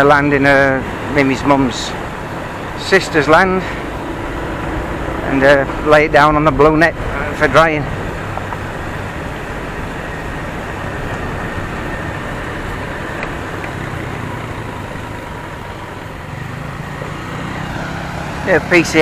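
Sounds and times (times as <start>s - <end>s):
road noise: 0.0s - 19.0s
scooter engine hum: 0.0s - 19.0s.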